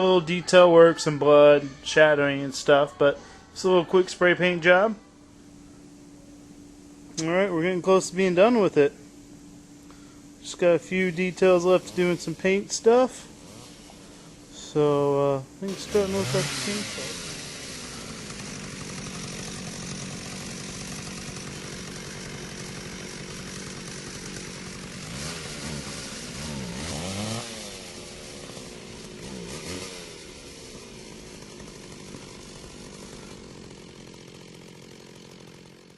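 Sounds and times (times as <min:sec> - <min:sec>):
chainsaw engine idling and revving: 0:06.4 - 0:35.9.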